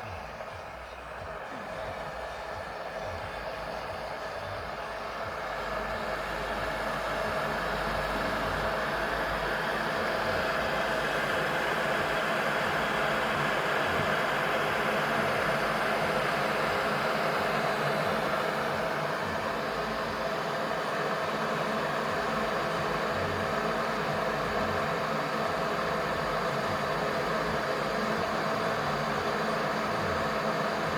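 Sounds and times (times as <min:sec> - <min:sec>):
electric kettle heating water: 0:00.0 - 0:30.9.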